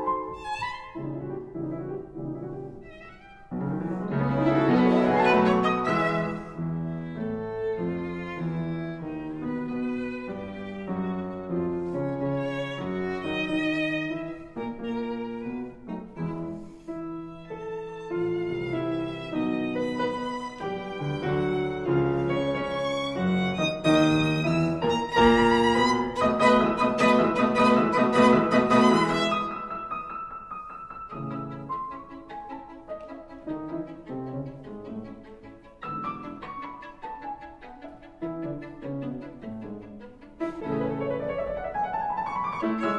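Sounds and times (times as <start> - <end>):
slow violin melody: 0.0 - 1.8, 2.6 - 42.9
bowed strings: 0.0 - 30.4, 31.1 - 42.9.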